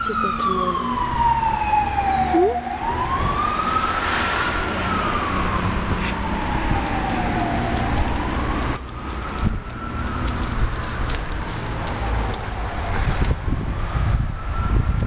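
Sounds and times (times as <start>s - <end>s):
emergency vehicle siren wailing: 0.0s - 15.0s.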